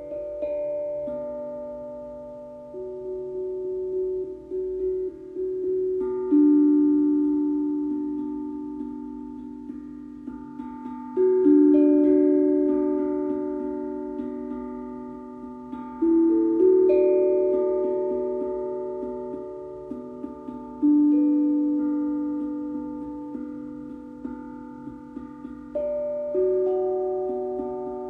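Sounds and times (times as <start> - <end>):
tuned metal percussion ringing: 0.0 - 28.0.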